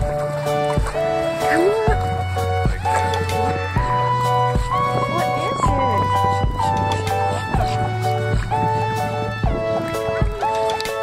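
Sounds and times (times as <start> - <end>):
steady bass beat: 0.0 - 10.5
melody of held notes: 0.0 - 11.0.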